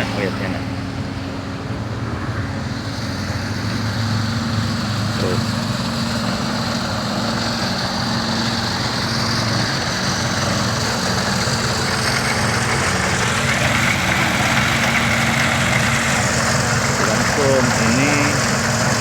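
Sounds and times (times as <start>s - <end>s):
high mechanical whine: 0.0s - 19.0s
large diesel engine humming: 0.0s - 19.0s.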